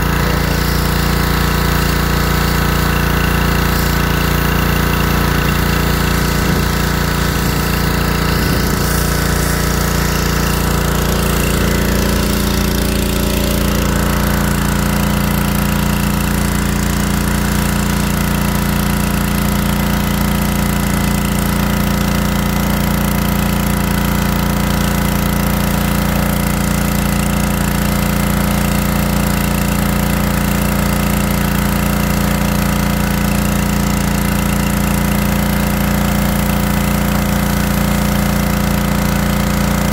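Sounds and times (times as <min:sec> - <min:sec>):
small engine running: 0:00.0 - 0:39.9
water jet spraying: 0:00.0 - 0:39.9.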